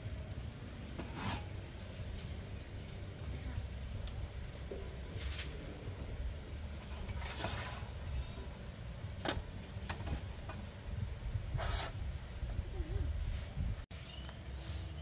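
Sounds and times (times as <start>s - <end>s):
steady low rumble: 0.0s - 13.9s.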